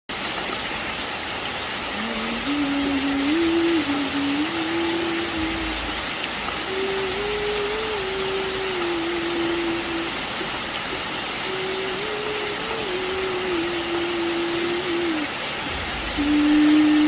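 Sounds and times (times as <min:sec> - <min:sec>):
heavy rain hissing: 0:00.1 - 0:17.0.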